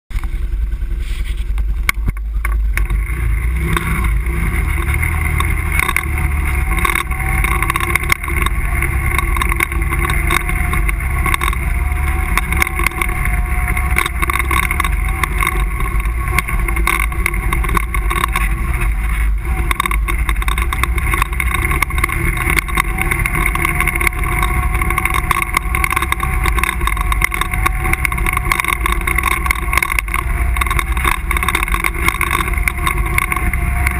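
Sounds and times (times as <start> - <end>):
quad bike engine running: 0.1 - 33.9
knocks and rattles over bumps: 1.4 - 33.9.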